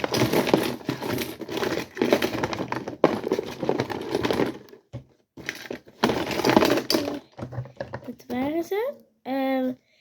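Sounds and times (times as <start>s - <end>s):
rustling plastic toys: 0.0s - 8.8s.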